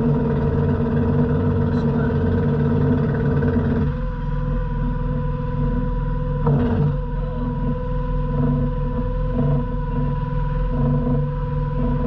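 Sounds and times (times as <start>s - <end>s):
outboard boat engine running: 0.0s - 12.0s.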